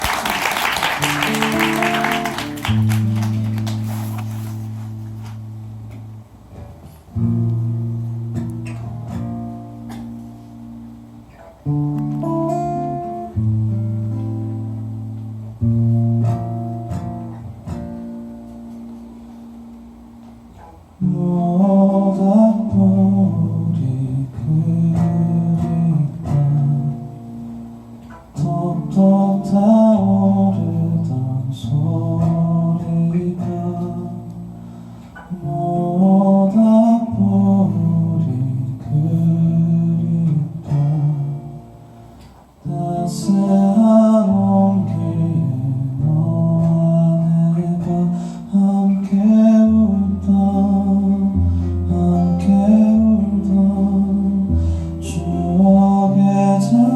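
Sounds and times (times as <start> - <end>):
guitar: 0.0 - 56.9.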